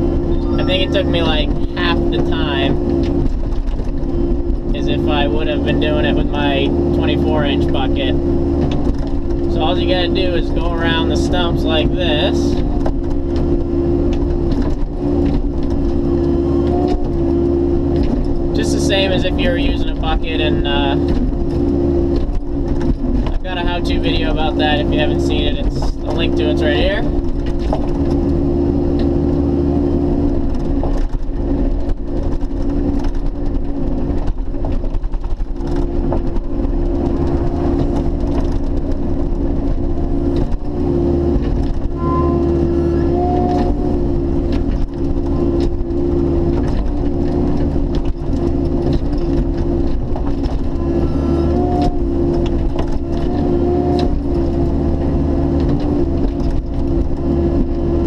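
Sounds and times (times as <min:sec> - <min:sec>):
hydraulic whines: 0:00.0 - 0:33.3, 0:35.6 - 0:58.0
diesel excavator engine running: 0:00.0 - 0:58.0.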